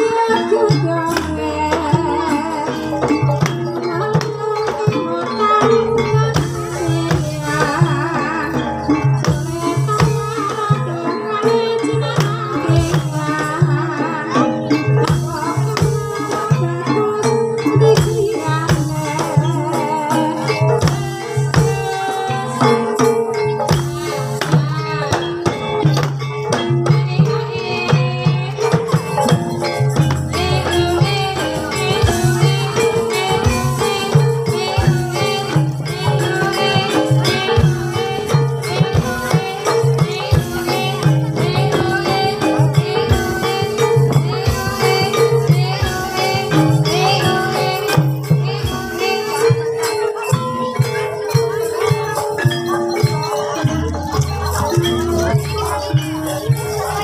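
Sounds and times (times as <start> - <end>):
tuned metal percussion: 0.0 - 57.0
drum and rattle strokes: 0.8 - 57.0.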